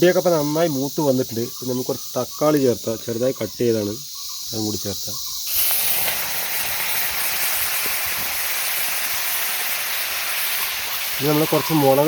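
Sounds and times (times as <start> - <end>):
tomatoes sizzling in hot oil: 0.0 - 12.0.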